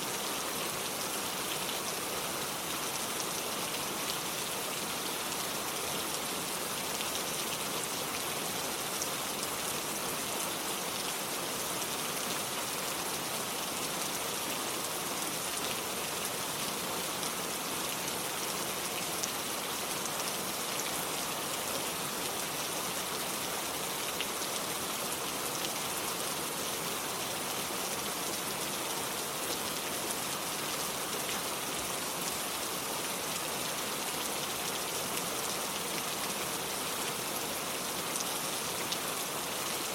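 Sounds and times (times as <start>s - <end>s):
rain on porch and lake: 0.0s - 39.9s.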